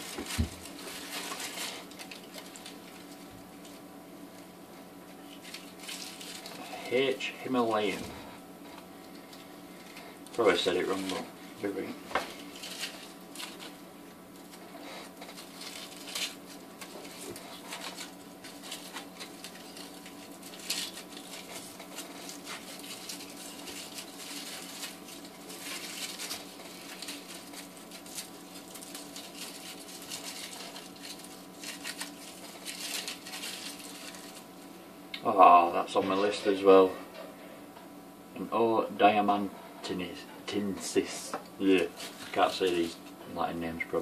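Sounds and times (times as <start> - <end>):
aluminium foil crinkling: 0.0 - 34.8, 41.0 - 43.2
faint electrical hum: 0.0 - 44.0.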